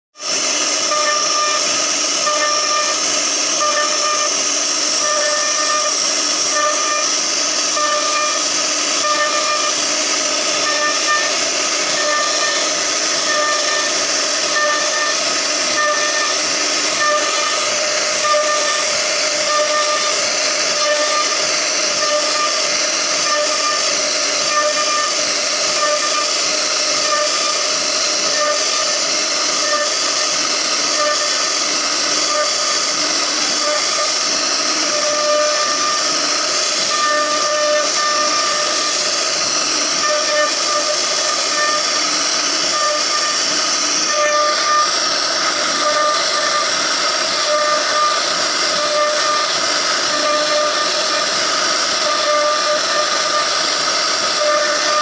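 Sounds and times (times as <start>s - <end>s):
bit cutting wood hiss: 0.2s - 55.0s
router spindle whining: 0.2s - 55.0s.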